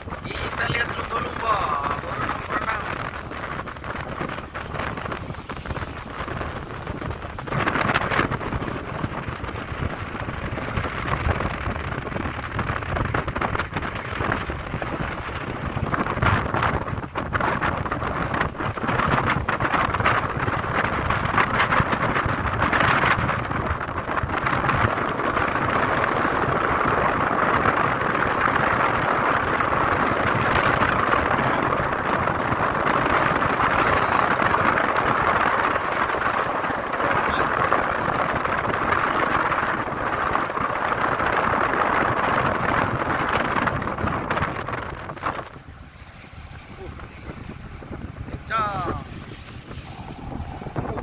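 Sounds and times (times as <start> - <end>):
water rushing along ship hull: 0.0 - 51.0
wind buffeting microphone: 0.0 - 51.0.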